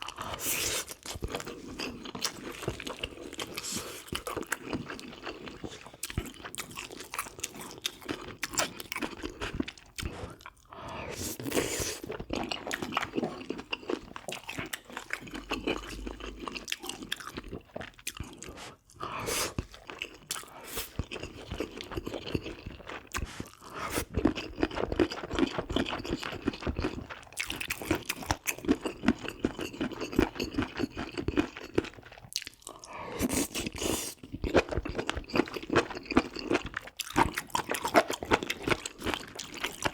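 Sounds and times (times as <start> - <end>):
wet chewing and crunching: 0.0 - 10.8, 11.4 - 39.9.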